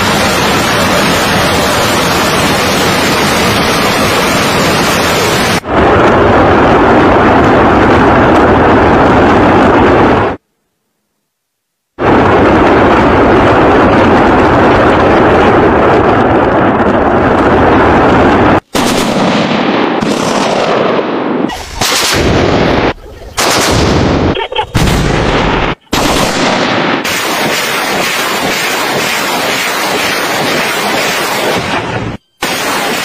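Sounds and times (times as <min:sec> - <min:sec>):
rockets launching roar: 0:00.0 - 0:10.4, 0:12.0 - 0:33.0.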